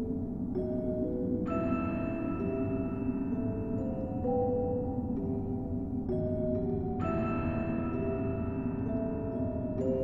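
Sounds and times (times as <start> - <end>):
slow sustained background music: 0.0 - 10.0.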